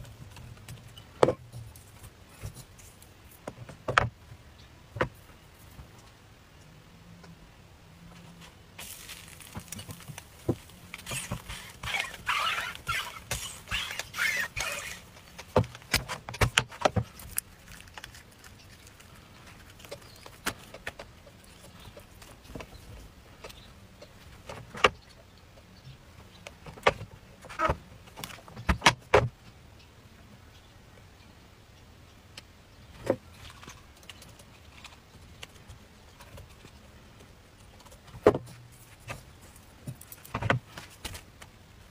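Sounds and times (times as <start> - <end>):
crackly rustling: 0.0 - 6.3, 8.0 - 28.7, 32.9 - 41.9.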